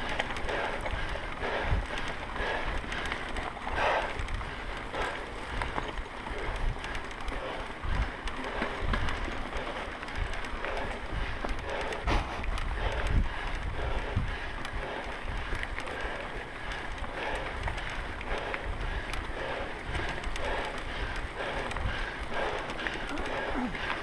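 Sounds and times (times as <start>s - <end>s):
bike rattling over bumps: 0.0s - 24.0s
bike tyres on loose dirt: 0.0s - 24.0s.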